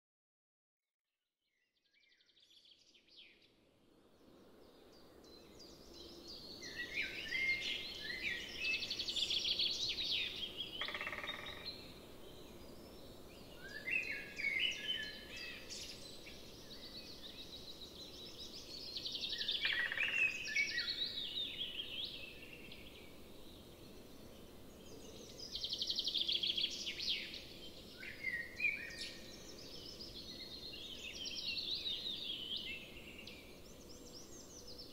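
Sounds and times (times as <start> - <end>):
faint outdoor background noise: 1.9 - 34.9.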